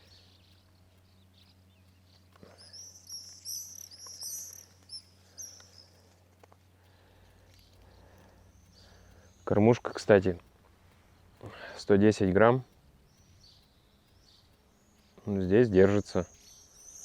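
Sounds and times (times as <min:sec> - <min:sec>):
faint clicks: 0:00.0 - 0:17.0
songbird chirping: 0:00.0 - 0:17.0.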